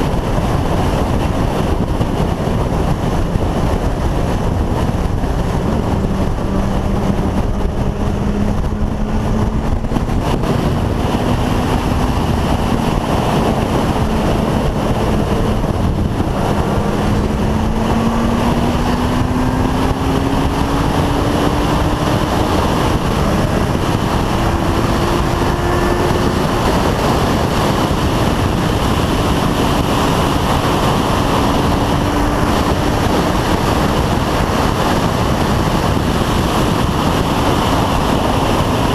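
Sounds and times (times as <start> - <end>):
motorcycle engine hum: 0.0 - 38.9
wind rushing over microphone: 0.0 - 38.9.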